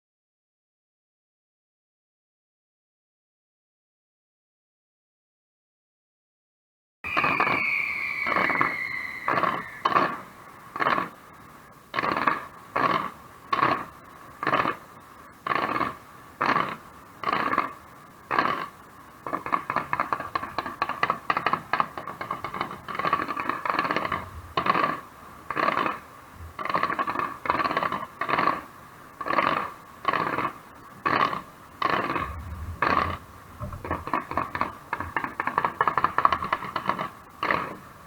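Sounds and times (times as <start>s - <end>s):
fireworks bursting: 7.1s - 38.0s
fireworks crackling: 7.1s - 38.0s.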